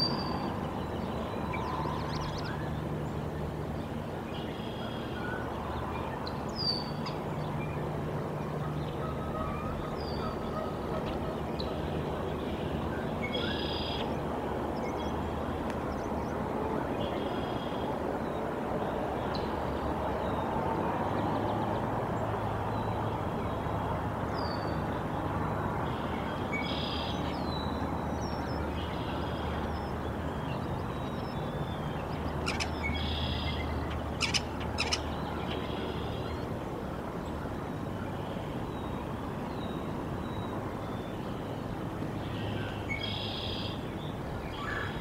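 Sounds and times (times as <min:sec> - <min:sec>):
songbirds chirping: 0:00.0 - 0:45.0.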